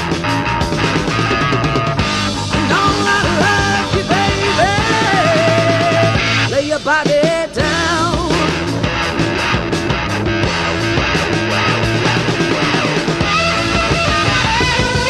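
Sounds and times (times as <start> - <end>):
bass guitar: 0.0 - 15.0
drums: 0.0 - 15.0
electric lead guitar bending notes: 0.0 - 15.0.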